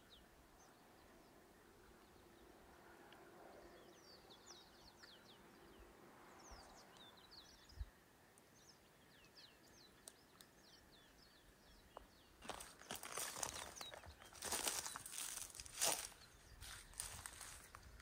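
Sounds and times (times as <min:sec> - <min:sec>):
small birds chirping: 0:03.5 - 0:18.0.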